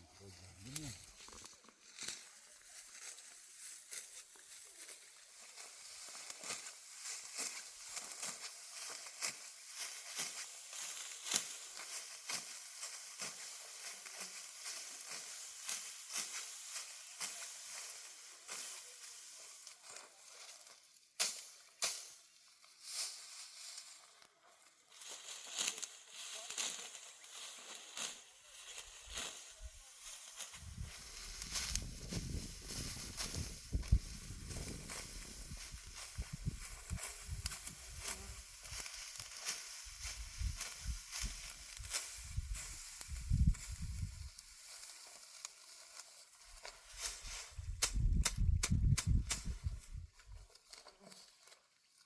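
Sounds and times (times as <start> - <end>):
dry wheat stalks crackling: 0.0 - 52.0.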